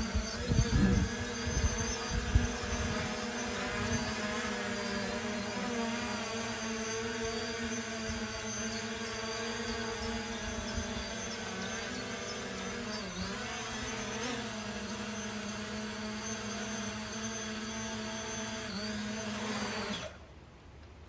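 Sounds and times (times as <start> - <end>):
drone rotors humming: 0.0 - 20.2.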